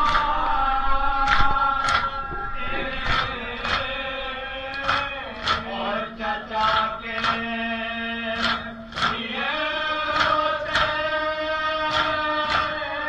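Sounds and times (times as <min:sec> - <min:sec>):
mournful chanting: 0:00.0 - 0:13.0
men beating their chests: 0:01.2 - 0:13.0.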